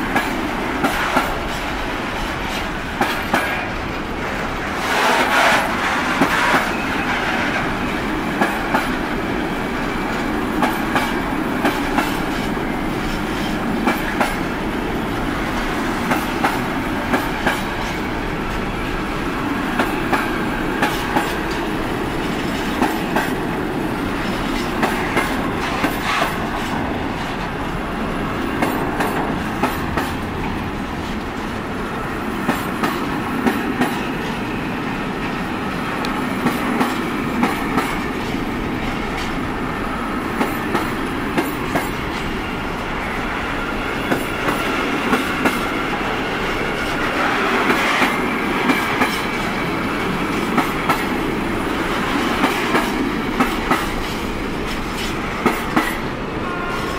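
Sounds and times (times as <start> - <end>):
train wheels rumbling on rail: 0.0 - 56.9
wheels clickety-clack on rail joints: 0.0 - 56.9.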